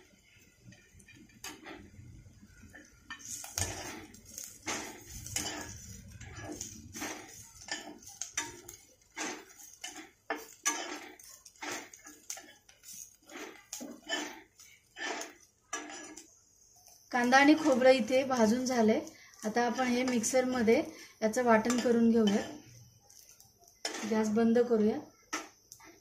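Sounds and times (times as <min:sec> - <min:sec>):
spatula scraping a pan: 0:00.1 - 0:26.0.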